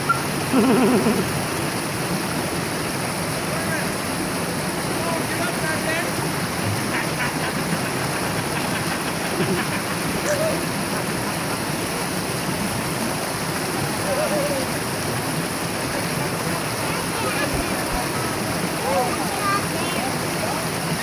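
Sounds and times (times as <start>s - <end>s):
river cascade rushing: 0.0s - 21.0s.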